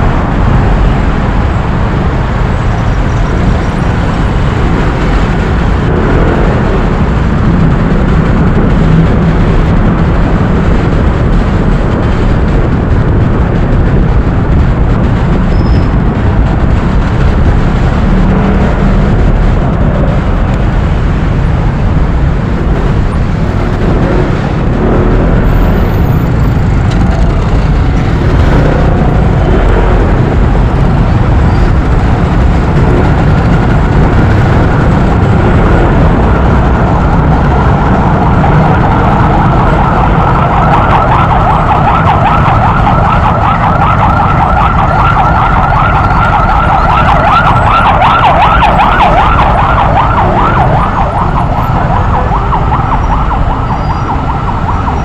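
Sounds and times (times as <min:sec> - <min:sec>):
emergency vehicle siren wailing: 0:00.0 - 0:55.0
motorcycle engine and wind rumble: 0:00.0 - 0:55.0.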